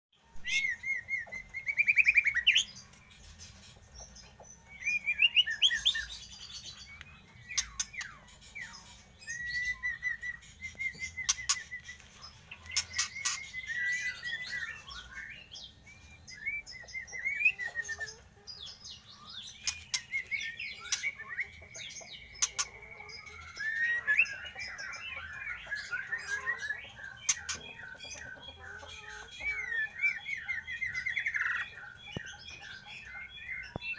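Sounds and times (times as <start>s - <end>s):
songbird singing and chirping: 0.2s - 33.9s.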